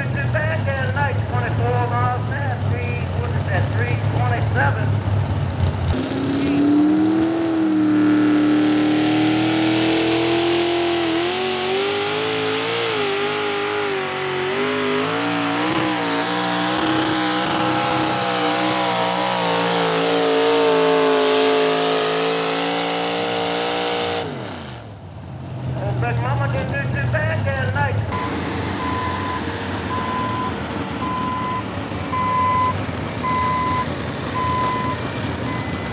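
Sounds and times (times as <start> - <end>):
tractor engine at high revs: 0.0 - 35.9.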